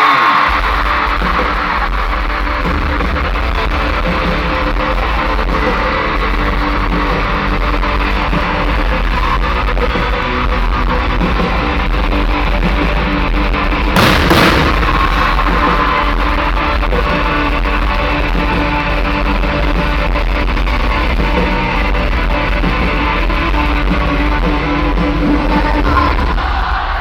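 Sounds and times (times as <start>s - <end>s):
loud rock music over pa: 0.0s - 27.0s.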